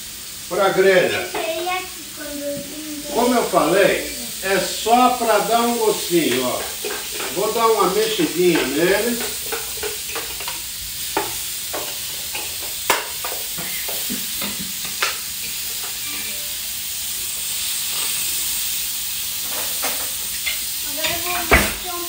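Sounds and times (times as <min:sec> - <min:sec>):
fruit sizzling on a grill pan: 0:00.0 - 0:22.0.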